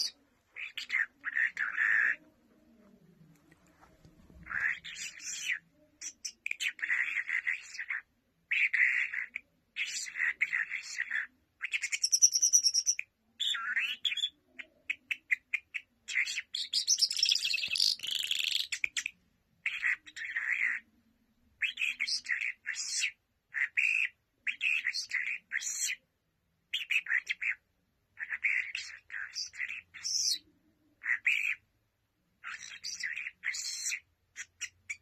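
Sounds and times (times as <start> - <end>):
small birds chirping and twittering: 0.0 - 20.9, 21.6 - 35.0.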